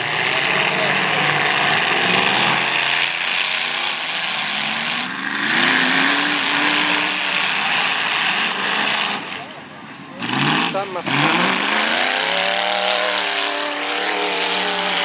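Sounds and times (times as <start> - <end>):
car engines revving: 0.0 - 15.0
engine accelerating: 0.0 - 15.0.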